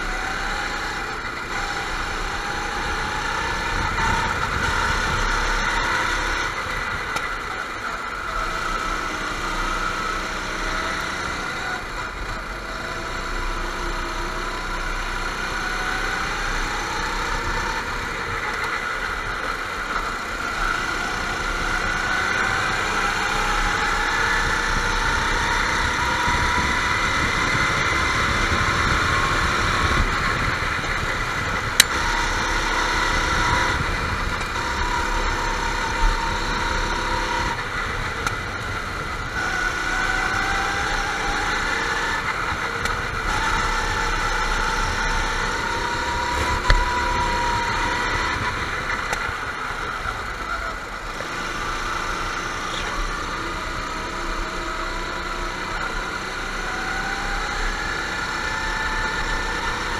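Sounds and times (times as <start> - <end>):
go-kart engines racing: 0.0 - 59.9.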